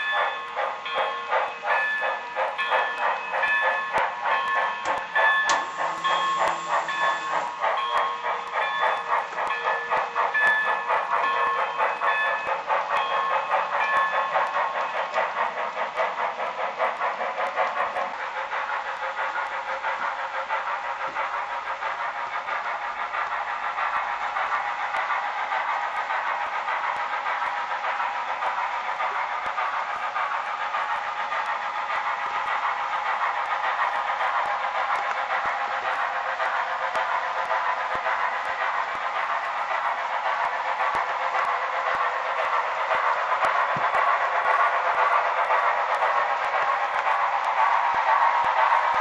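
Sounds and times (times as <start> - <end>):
model train steam chuffing: 0.0 - 49.0.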